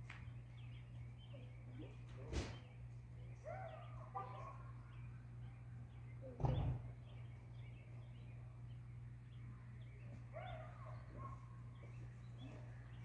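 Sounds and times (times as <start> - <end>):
distant bird chirps: 0.0 - 13.0.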